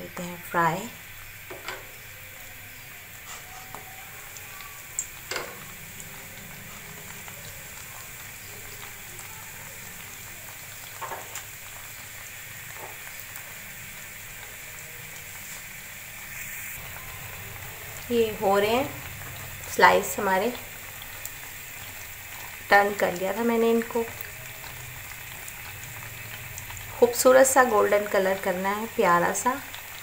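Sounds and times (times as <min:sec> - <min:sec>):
bread sizzling in oil: 0:00.0 - 0:30.0.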